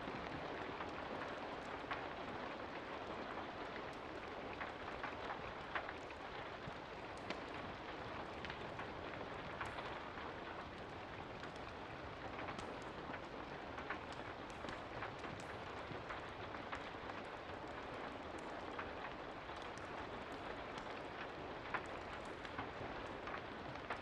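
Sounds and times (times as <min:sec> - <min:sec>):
steady rain falling: 0:00.0 - 0:24.0
wood fire popping and crackling: 0:00.0 - 0:24.0.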